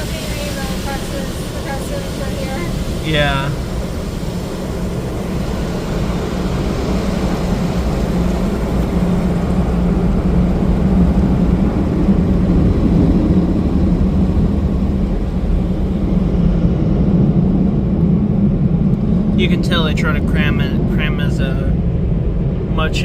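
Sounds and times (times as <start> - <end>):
car wash machinery: 0.0 - 23.0.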